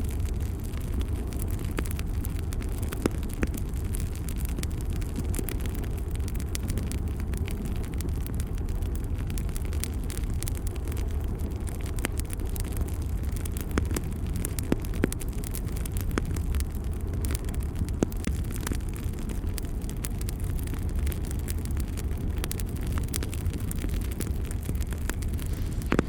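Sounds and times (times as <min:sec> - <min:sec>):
fire crackles and pops: 0:00.0 - 0:26.0
fire roaring in fireplace: 0:00.0 - 0:26.0.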